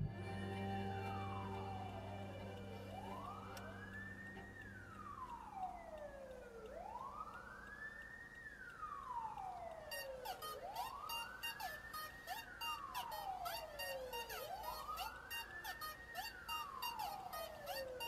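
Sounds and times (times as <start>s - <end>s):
siren wailing: 0.0s - 18.0s.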